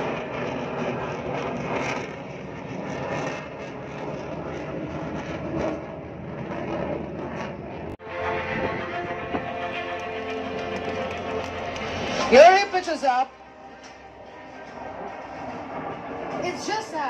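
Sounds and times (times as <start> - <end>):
fighter jet engines rushing: 0.0 - 17.0.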